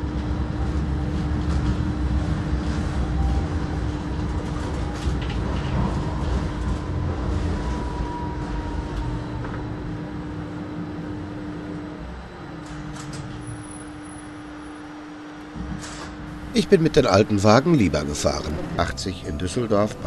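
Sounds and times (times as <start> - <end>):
tram wheels rumbling on rail: 0.0 - 14.7, 15.5 - 20.0
constant hum: 0.0 - 20.0
faint high whine: 2.7 - 20.0.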